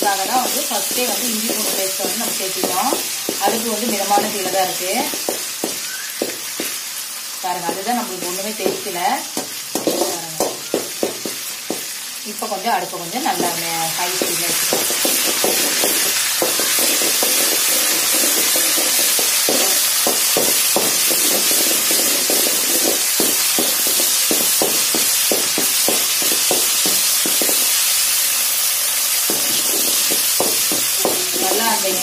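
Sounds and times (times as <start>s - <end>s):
paste sizzling in hot oil: 0.0s - 32.0s.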